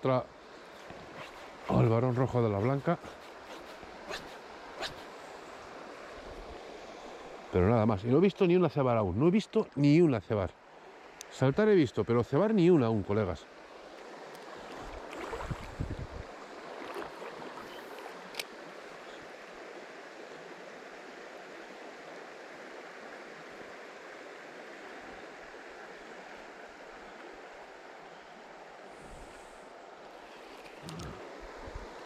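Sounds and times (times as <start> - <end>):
river current rushing: 0.0 - 9.2, 13.5 - 32.0.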